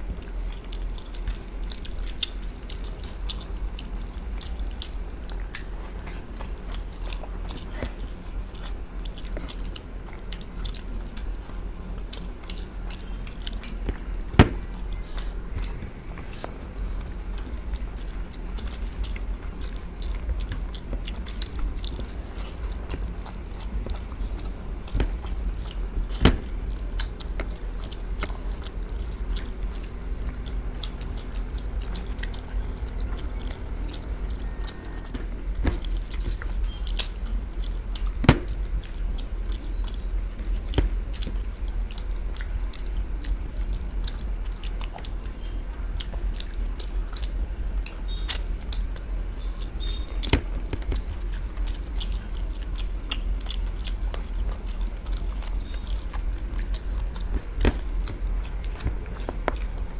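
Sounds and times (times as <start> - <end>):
people chewing: 0.0 - 59.9
steady low hum: 0.0 - 59.9.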